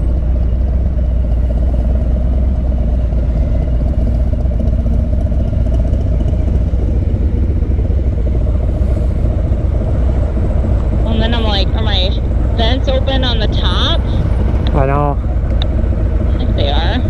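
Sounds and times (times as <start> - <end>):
motorcycle engine deep rumble: 0.0 - 17.0.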